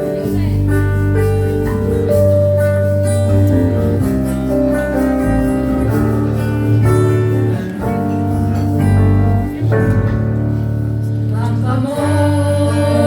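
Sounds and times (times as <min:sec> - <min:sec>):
guitar-led instrumental music: 0:00.0 - 0:13.0.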